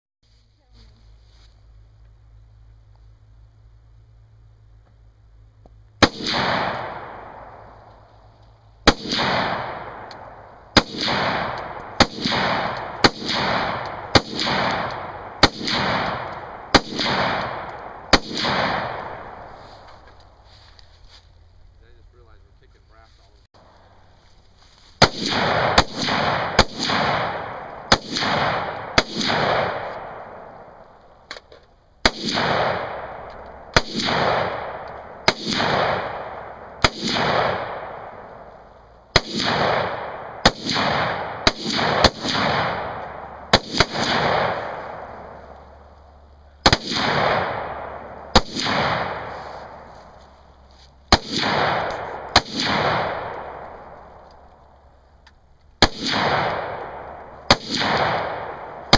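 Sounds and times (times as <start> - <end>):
gunshots with long echo: 6.0 - 20.2, 25.0 - 55.0, 55.8 - 58.9.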